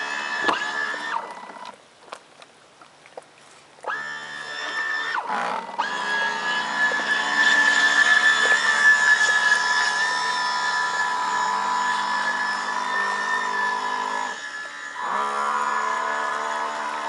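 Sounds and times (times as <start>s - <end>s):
model boat motor whining: 0.0s - 1.8s, 3.8s - 17.0s.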